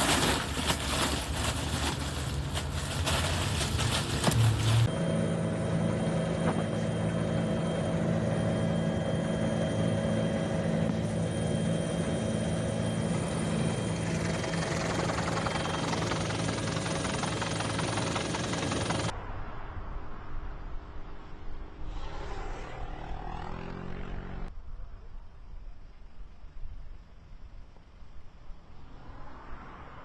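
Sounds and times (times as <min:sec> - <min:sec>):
engine drone: 0:00.0 - 0:24.6.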